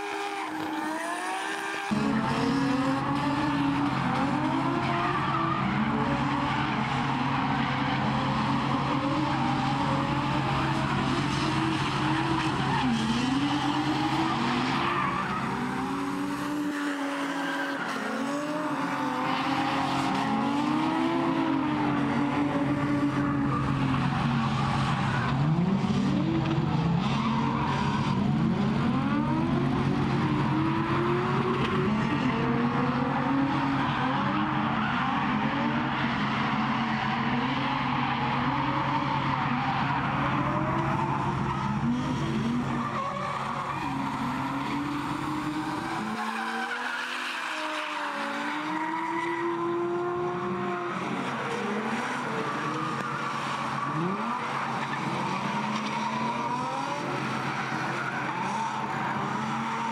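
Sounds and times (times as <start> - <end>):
car engines revving: 0.0 - 59.9
tyres skidding and squealing: 0.0 - 59.9.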